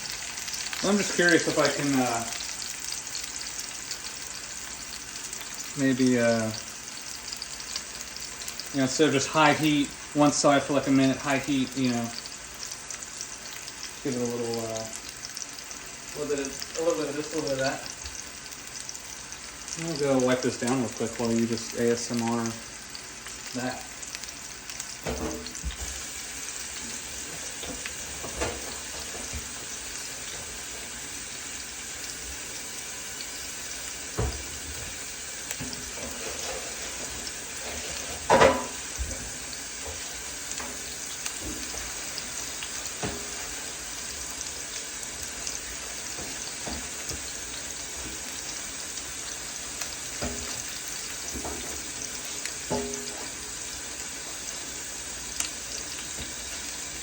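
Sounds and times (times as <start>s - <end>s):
steak sizzling in a pan: 0.0s - 57.0s.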